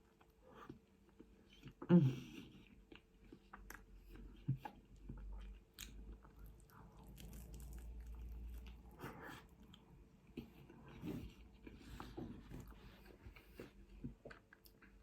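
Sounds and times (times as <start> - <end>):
person chewing and biting food: 2.6 - 15.0.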